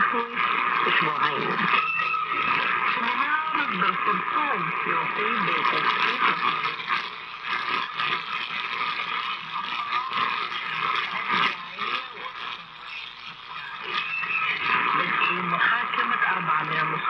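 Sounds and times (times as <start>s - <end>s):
faint radio voice: 0.0s - 17.0s
shortwave radio static and hiss: 0.0s - 17.0s.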